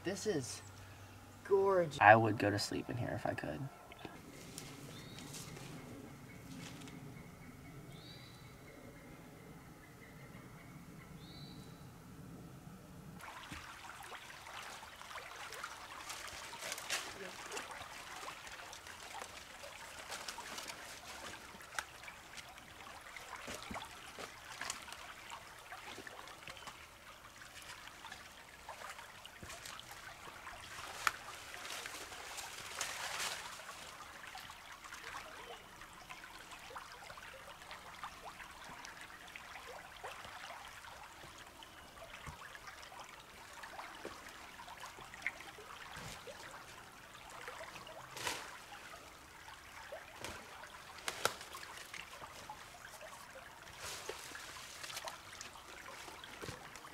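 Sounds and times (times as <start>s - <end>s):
stream water trickling: 0.0s - 8.8s, 13.1s - 56.9s.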